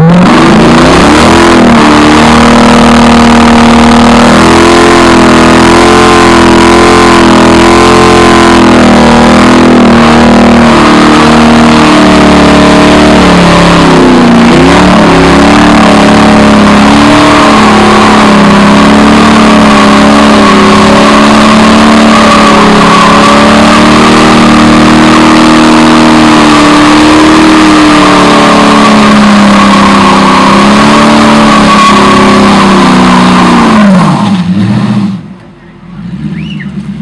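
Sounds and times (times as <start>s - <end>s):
tyres spinning on asphalt: 0.0s - 35.2s
car engine at high revs: 0.0s - 37.0s.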